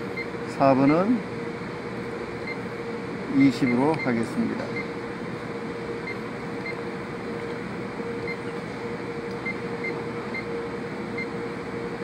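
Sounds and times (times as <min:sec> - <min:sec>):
workshop machinery hum and hiss: 0:00.0 - 0:12.0.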